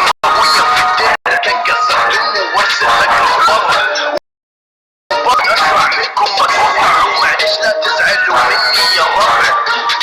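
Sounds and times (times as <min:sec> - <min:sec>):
music: 0:00.2 - 0:04.2, 0:05.1 - 0:10.0.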